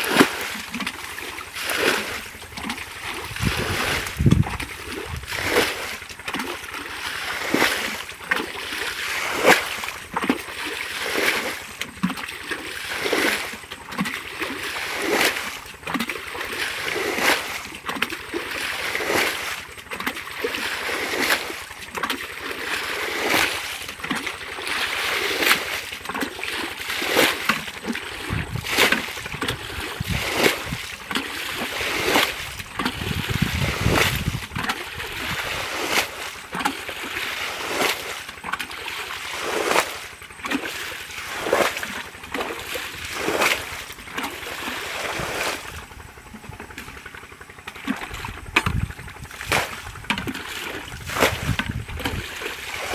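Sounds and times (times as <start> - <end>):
water splashing: 0.0 - 52.9.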